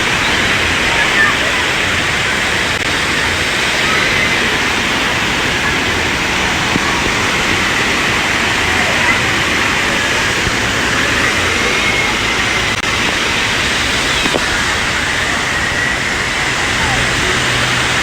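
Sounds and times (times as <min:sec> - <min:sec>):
faint voices: 0:00.0 - 0:18.0
rushing water: 0:00.0 - 0:18.0.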